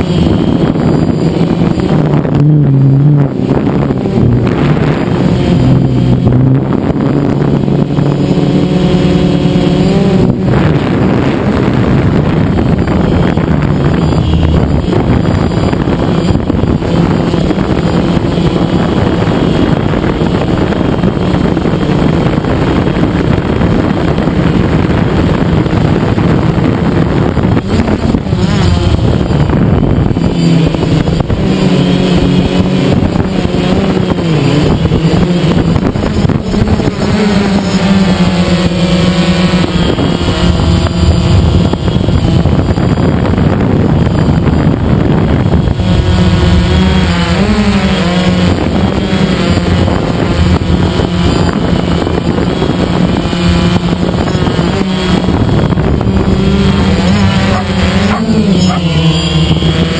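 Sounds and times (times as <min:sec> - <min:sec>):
drone propellers whirring: 0:00.0 - 0:59.9.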